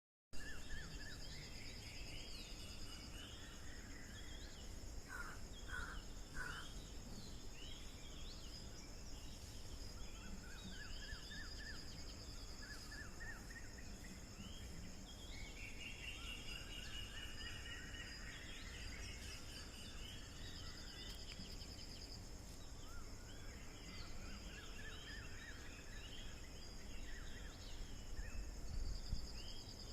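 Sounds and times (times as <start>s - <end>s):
birds chirping and trilling: 0.4s - 29.9s
crickets trilling: 0.4s - 29.9s.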